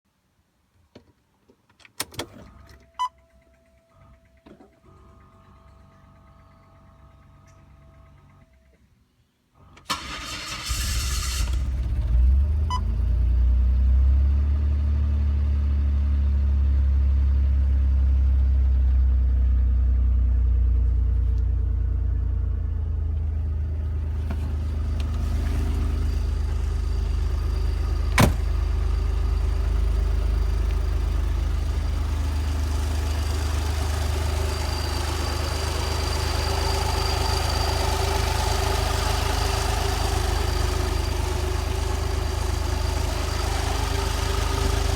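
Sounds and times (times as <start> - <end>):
car engine idling: 3.2 - 8.9, 9.6 - 44.9.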